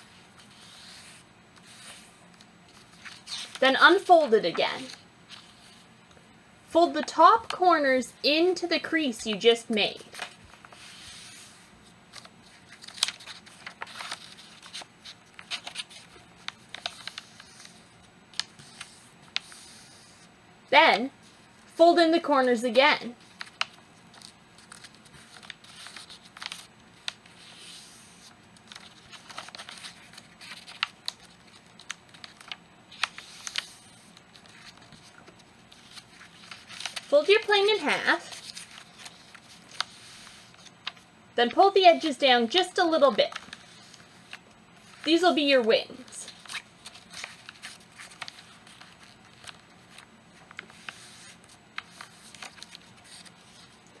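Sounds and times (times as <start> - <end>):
paper being folded and creased: 0.0 - 5.8, 10.1 - 20.3, 23.1 - 41.6, 42.9 - 45.2, 46.2 - 54.0.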